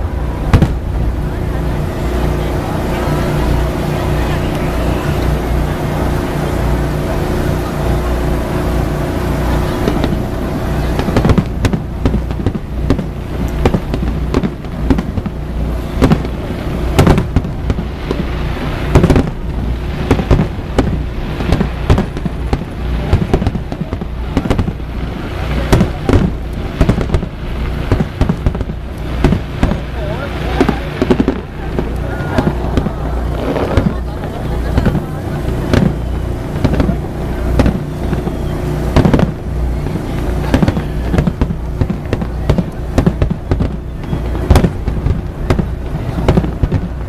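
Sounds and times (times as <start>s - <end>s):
fireworks bursting: 0.0s - 47.0s
steady low hum: 0.0s - 47.0s.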